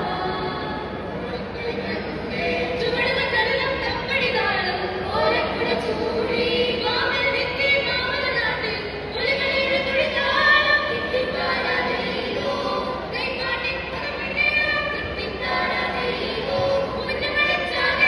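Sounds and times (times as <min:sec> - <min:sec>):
group singing into microphones: 0:00.0 - 0:18.0.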